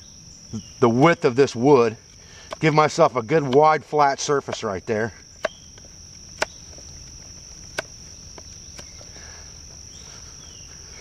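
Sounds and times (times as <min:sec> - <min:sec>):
high-pitched insect buzz: 0:00.0 - 0:11.0.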